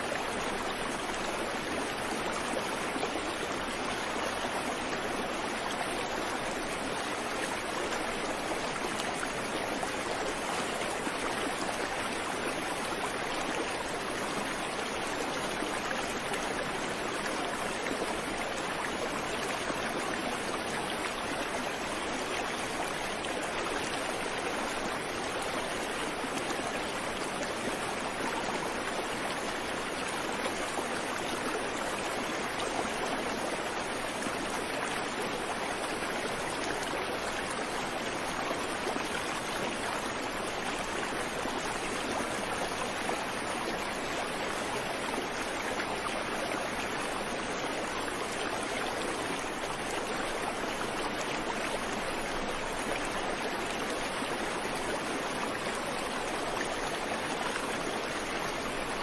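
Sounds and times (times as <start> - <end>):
creek water over rocks: 0.0 - 59.0.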